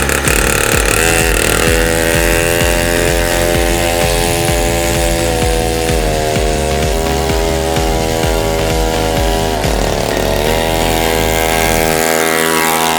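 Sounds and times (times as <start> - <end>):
minibike engine idling: 0.0 - 12.9.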